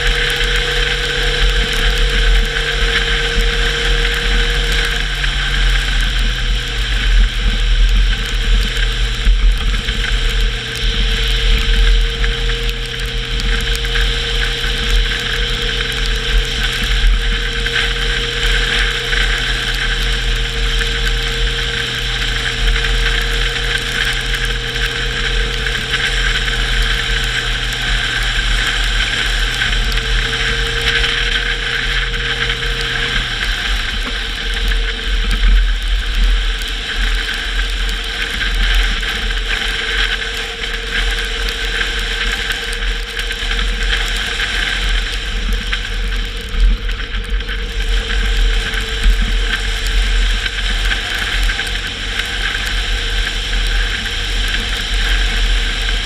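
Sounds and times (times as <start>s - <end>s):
car engine and road noise: 0.0s - 56.0s
high whine: 0.0s - 56.0s
low hum: 0.0s - 56.0s.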